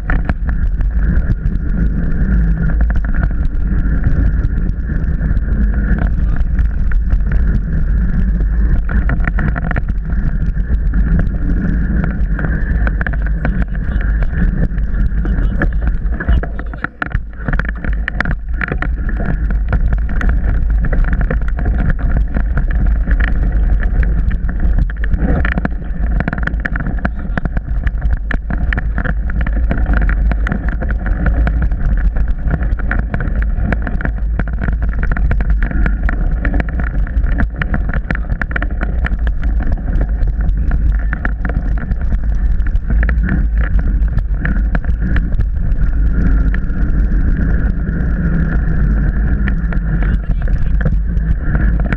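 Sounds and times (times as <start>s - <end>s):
bike clicks and rattles: 0.0s - 51.9s
wind and tyres rumbling: 0.0s - 51.9s.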